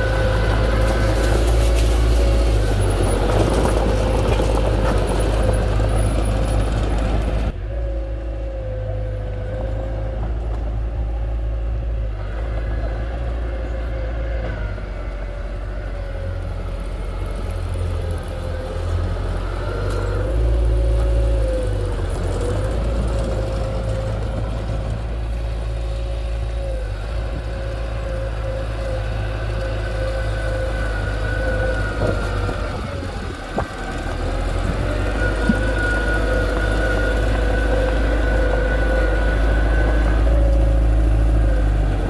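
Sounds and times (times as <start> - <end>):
diesel engine of heavy machinery: 0.0 - 42.0
wavering whine: 7.5 - 42.0.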